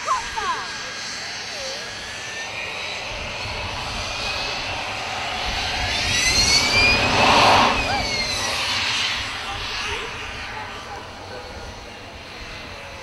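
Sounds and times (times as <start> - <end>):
high engine whine: 0.0 - 13.0
jet engines running: 0.0 - 13.0.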